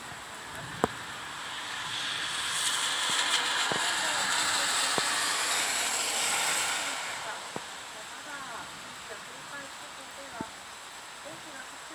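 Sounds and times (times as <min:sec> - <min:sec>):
heavy rain hissing: 0:00.0 - 0:11.9.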